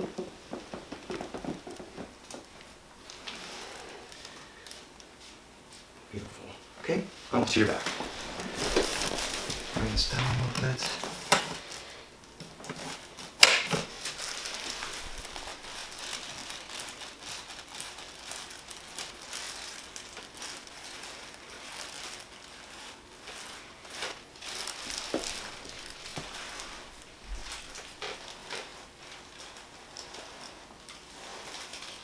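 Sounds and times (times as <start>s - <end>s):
faint rustling on a table: 0.0s - 6.0s, 7.1s - 32.0s.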